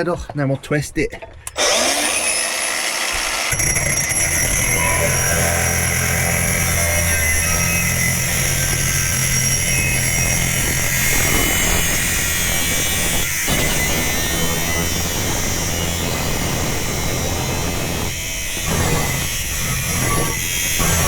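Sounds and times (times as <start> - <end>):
angle grinder cutting metal pipe: 1.5 - 21.0.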